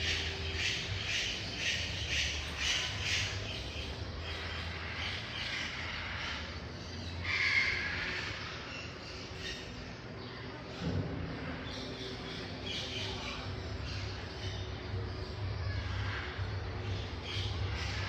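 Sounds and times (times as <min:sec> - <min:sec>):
bird harsh raspy calls: 0:00.0 - 0:18.0.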